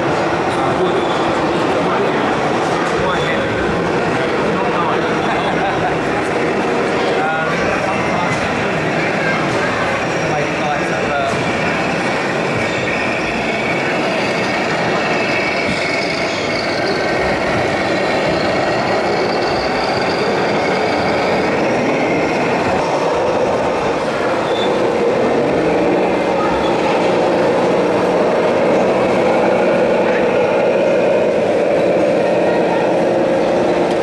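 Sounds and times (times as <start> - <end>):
busy hall din: 0.0 - 34.0.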